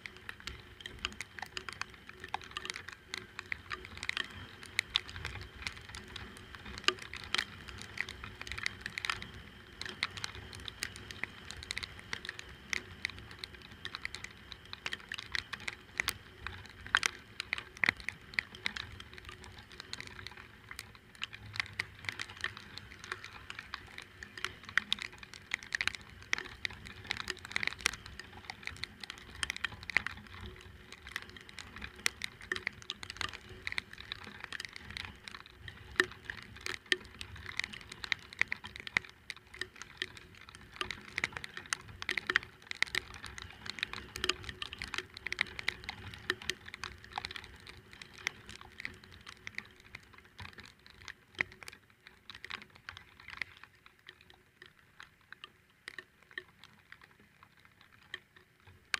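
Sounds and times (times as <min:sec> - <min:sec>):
rain pattering: 0:00.0 - 0:58.9.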